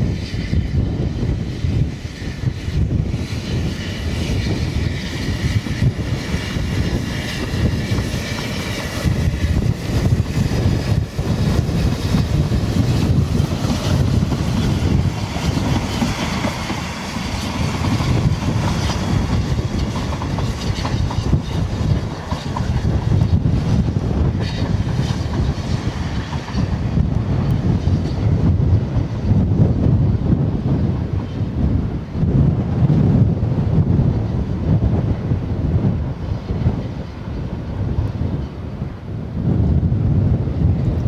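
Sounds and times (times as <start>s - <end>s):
steam locomotive hauling coaches: 0.0s - 41.0s
wind buffeting microphone: 0.0s - 41.0s.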